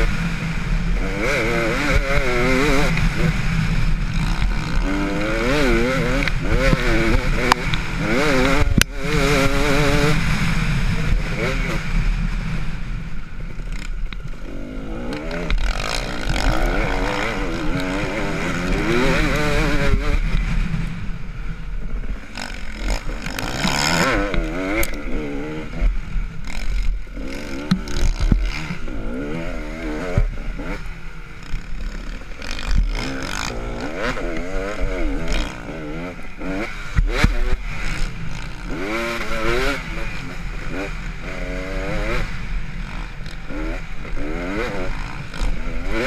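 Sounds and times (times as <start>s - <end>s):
motocross bike engine revving: 0.0s - 46.0s.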